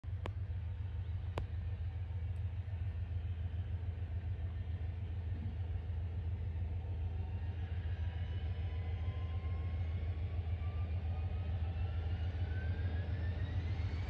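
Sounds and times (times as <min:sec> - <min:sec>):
steady low rumble: 0:00.0 - 0:14.0
distant jet engines whining: 0:00.1 - 0:14.0.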